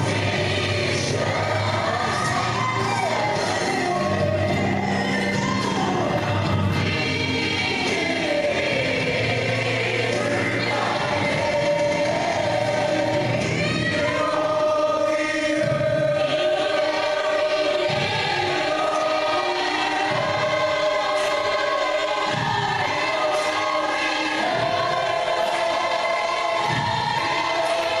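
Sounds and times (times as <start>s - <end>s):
choir singing gospel: 0.0s - 28.0s.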